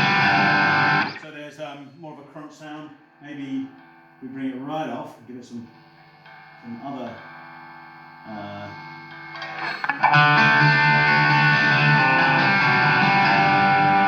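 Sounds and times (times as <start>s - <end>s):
electric guitar: 0.0s - 1.4s, 3.0s - 14.0s.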